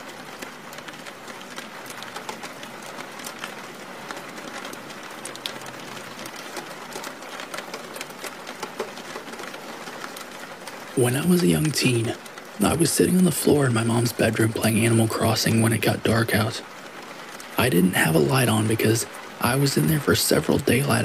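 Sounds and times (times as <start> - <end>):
raindrops ticking: 0.0 - 21.0
steady rain: 0.0 - 21.0.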